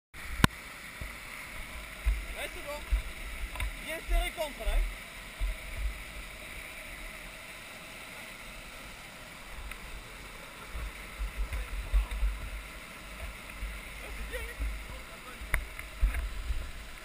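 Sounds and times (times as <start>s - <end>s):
stream rushing down rocks: 0.2s - 17.0s.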